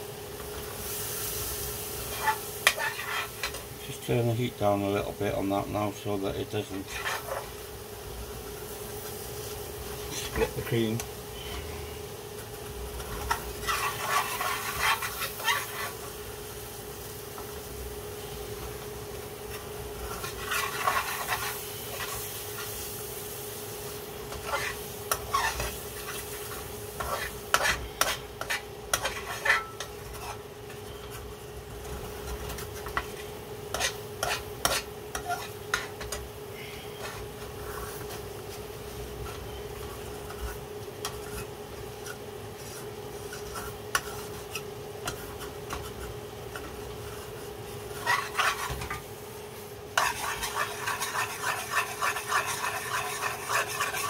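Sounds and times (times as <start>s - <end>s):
sauce sizzling: 0.0s - 3.8s, 4.8s - 39.2s, 39.8s - 54.0s
steady hum: 1.6s - 54.0s
wooden spoon scraping a pan: 2.0s - 7.6s, 9.0s - 16.2s, 19.4s - 23.0s, 24.2s - 54.0s.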